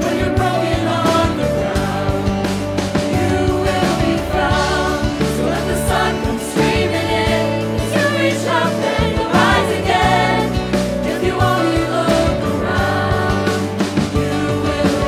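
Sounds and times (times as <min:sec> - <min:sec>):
sustained instrumental backing: 0:00.0 - 0:15.0
young voices singing together: 0:00.0 - 0:15.0.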